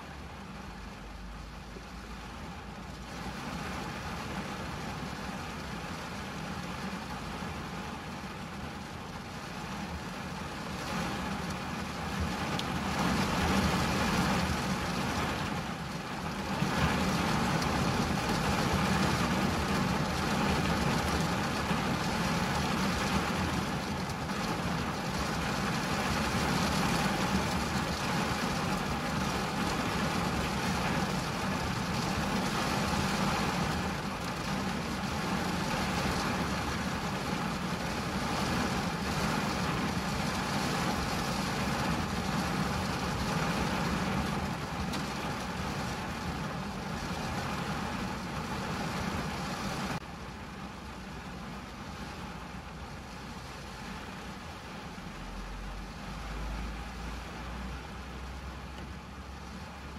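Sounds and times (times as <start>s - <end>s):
rain on a car windscreen: 0.0s - 59.9s.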